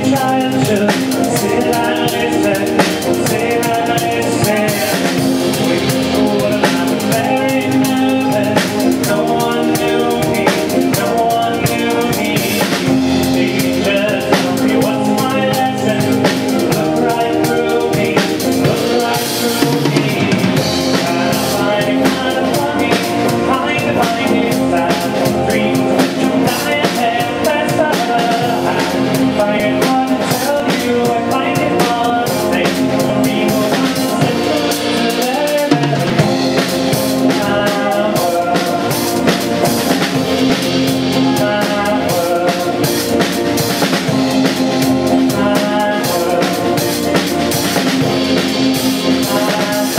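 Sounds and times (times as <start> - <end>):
drum kit beat: 0.0 - 49.9
strummed guitars: 0.0 - 49.9.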